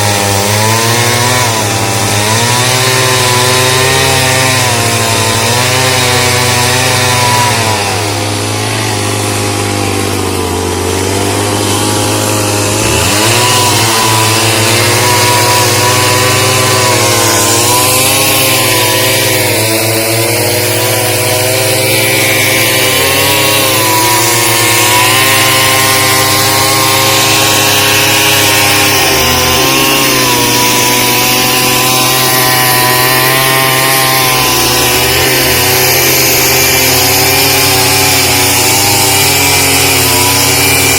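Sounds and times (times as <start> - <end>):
chainsaw engine cutting: 0.0 - 40.9.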